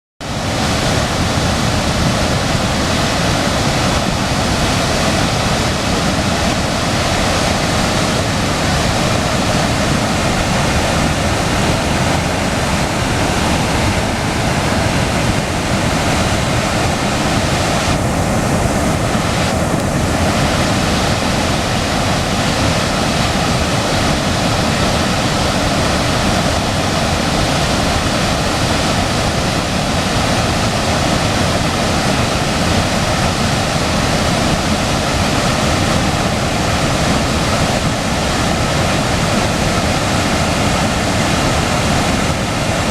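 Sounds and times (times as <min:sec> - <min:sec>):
waterfall rushing: 0:00.2 - 0:42.9.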